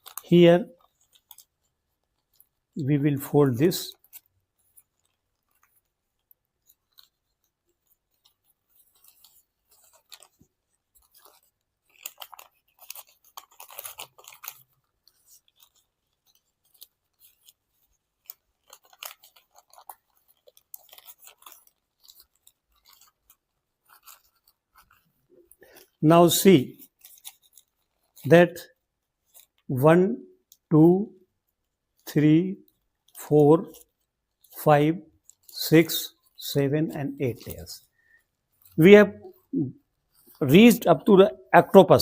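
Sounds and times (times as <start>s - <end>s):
paper rustling and crinkling: 0.0s - 26.0s, 26.6s - 29.7s, 32.6s - 36.4s, 37.1s - 41.2s.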